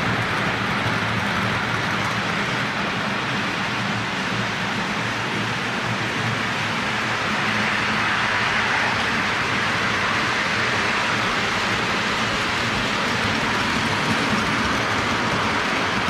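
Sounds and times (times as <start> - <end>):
metal wheels rumbling on rail: 0.0 - 16.0.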